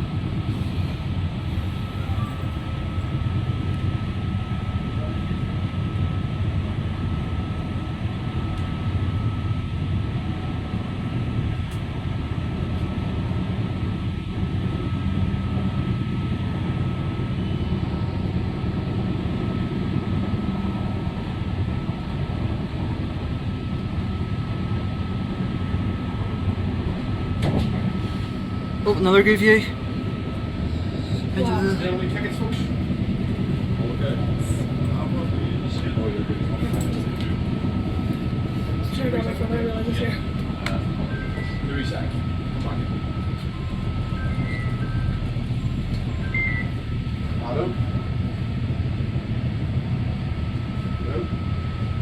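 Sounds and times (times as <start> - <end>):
train underfloor engine rumble: 0.0 - 52.0
thin steady whine: 0.1 - 52.0.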